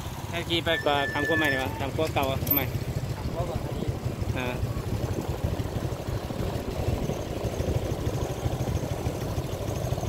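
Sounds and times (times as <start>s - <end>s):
motorbike engines rumbling: 0.0s - 10.0s.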